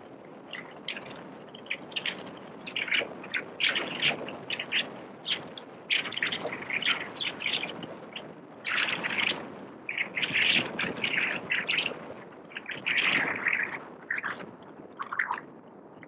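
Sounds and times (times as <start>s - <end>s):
small birds chirping: 0.5s - 14.4s.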